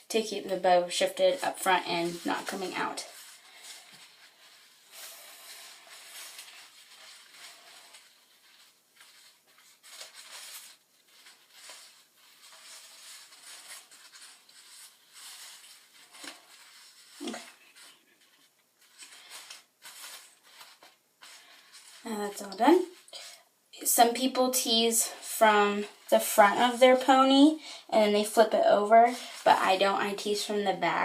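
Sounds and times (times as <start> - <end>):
rustling of hands and hair: 0.0 - 31.0.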